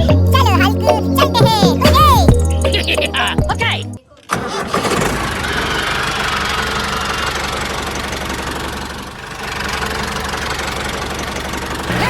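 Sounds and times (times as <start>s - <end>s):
tractor engine knocking: 1.4s - 12.0s.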